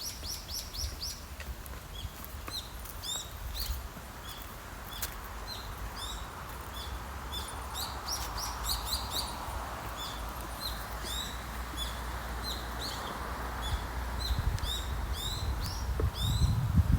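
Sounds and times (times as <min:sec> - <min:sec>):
small birds chirping: 0:01.9 - 0:16.8.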